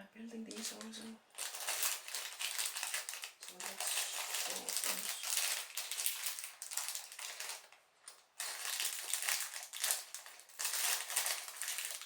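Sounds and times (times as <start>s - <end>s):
plastic pieces clattering: 1.4s - 12.0s.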